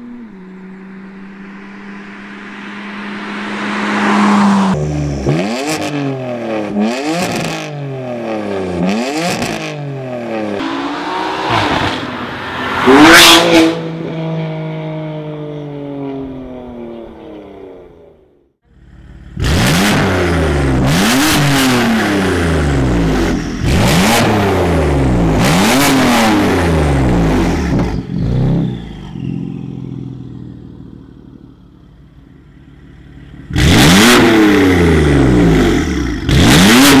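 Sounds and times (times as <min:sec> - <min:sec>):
car engine accelerating hard: 0:00.0 - 0:17.2, 0:18.8 - 0:37.0.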